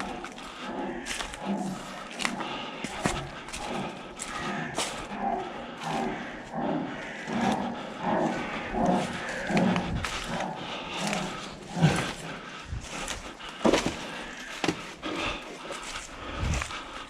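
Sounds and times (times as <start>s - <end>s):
heavy rhythmic panting: 0.0s - 17.0s.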